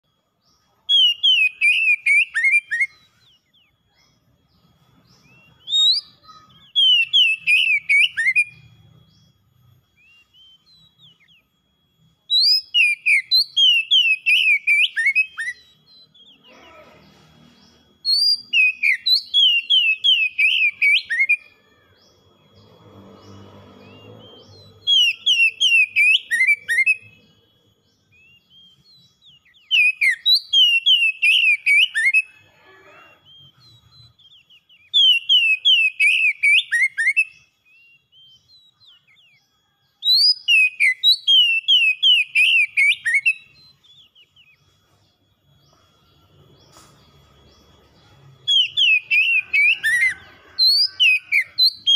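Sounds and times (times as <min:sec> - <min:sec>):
bird singing whistled notes: 0:00.0 - 0:51.9.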